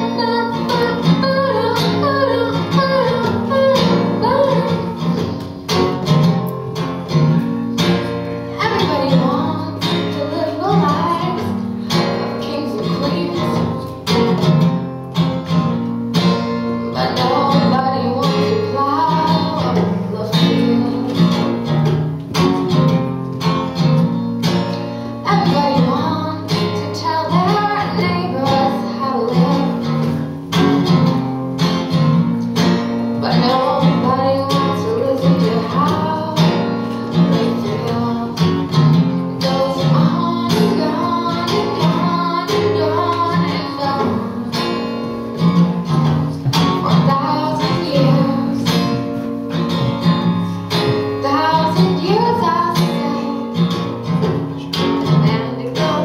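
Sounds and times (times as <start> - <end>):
woman singing: 0.0 - 7.2, 7.8 - 14.8, 16.2 - 23.0, 23.7 - 31.3, 32.6 - 56.0
acoustic guitar strumming: 0.0 - 56.0.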